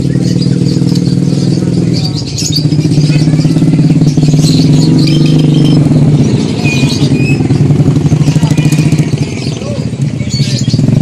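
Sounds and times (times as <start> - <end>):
motorcycle engine idling: 0.0 - 11.0
songbirds chirping and whistling: 0.0 - 11.0.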